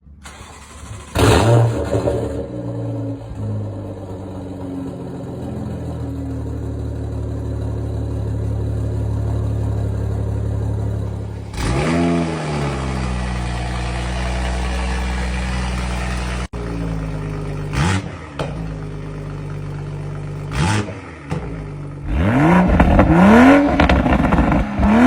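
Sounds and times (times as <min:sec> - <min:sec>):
car engine starting and idling: 0:00.0 - 0:25.0
car engine revving: 0:00.2 - 0:25.0.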